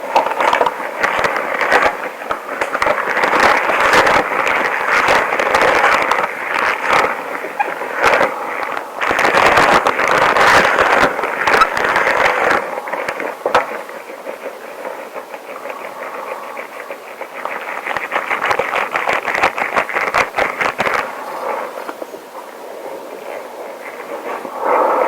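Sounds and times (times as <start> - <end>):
rubber gloves rubbing and squeaking: 0.0 - 25.0.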